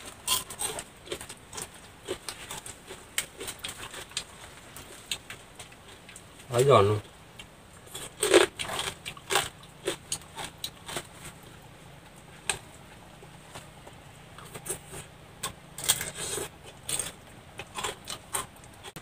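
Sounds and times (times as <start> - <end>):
crunching while eating: 0.0 - 6.8, 7.4 - 19.0.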